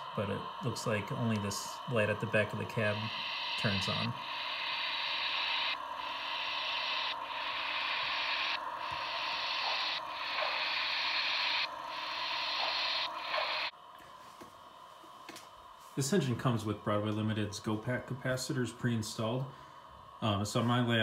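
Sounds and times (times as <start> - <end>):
steam locomotive hiss from small speaker: 0.0 - 13.7, 15.8 - 21.0.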